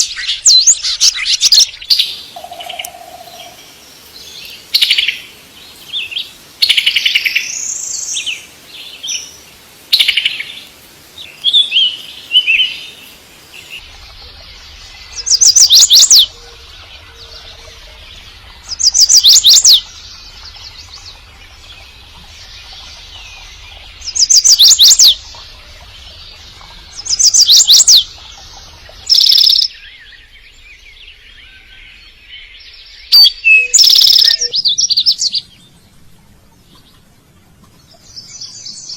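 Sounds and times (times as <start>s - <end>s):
bird chirping calls: 0.0s - 38.9s.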